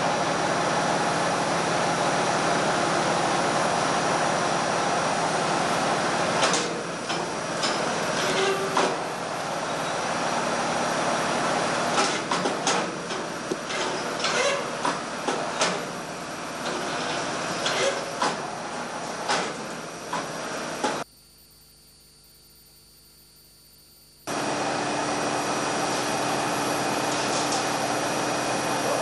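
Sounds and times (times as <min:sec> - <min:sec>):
workshop noise hiss: 0:00.0 - 0:21.1, 0:24.3 - 0:29.0.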